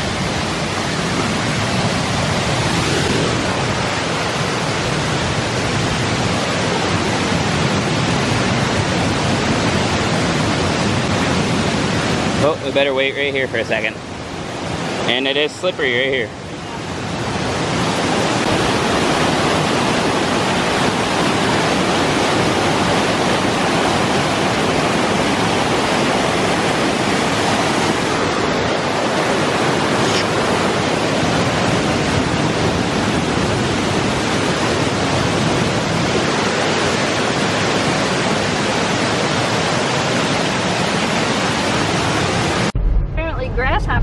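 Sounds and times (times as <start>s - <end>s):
waterfall rushing: 0.0s - 42.8s.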